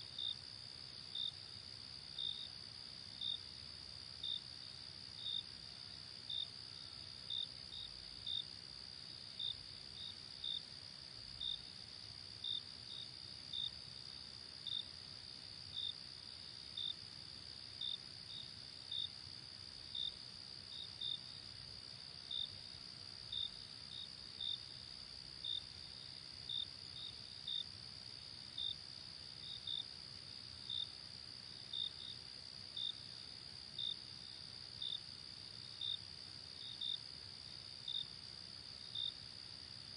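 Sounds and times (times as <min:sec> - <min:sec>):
insect chirps: 0:00.0 - 0:39.9.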